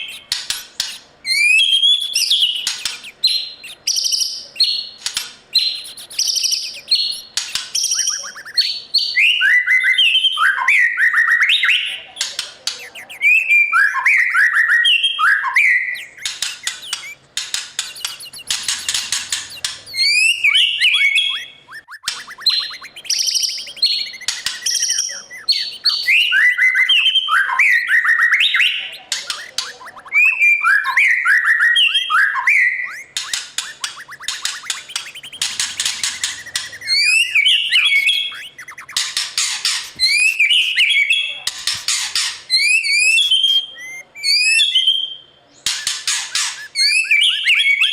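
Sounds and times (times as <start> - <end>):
bird singing varied phrases: 0.0 - 47.9.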